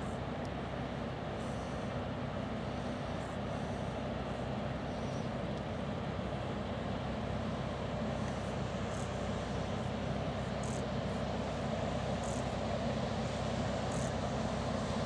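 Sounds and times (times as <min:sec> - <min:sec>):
tractor engine drone: 0:00.0 - 0:15.0.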